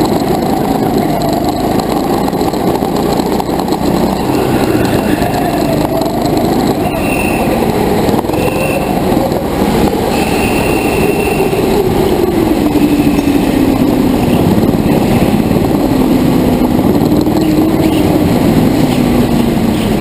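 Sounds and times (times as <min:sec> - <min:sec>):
constant rush of noise: 0:00.0 - 0:20.0
kart engine running hard: 0:00.0 - 0:20.0.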